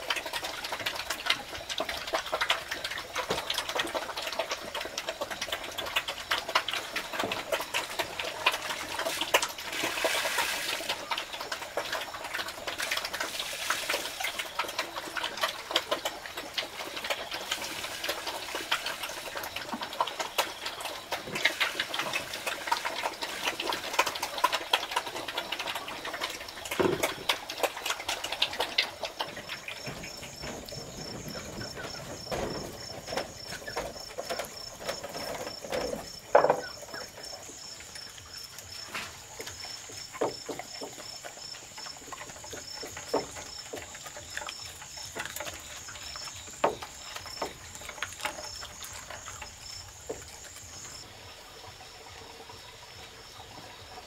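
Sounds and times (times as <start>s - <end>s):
insects and frogs chirping: 0.0s - 54.0s
water pouring: 0.0s - 54.0s.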